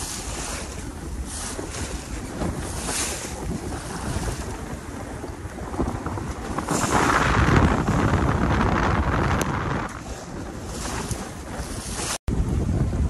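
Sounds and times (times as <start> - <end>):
water splashing along hull: 0.0 - 13.0
wind buffeting microphone: 0.0 - 13.0.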